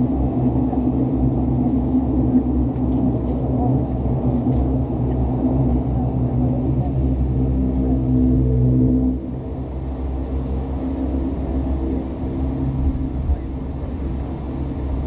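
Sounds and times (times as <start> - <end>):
turboprop engines droning in cabin: 0.0 - 15.0.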